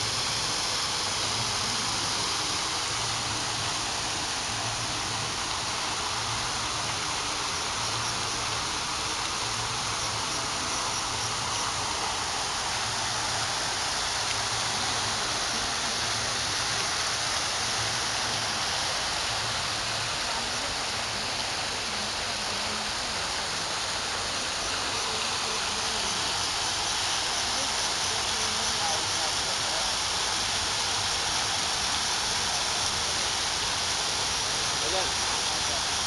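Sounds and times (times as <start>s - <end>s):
water fountain splashing: 0.0s - 36.0s.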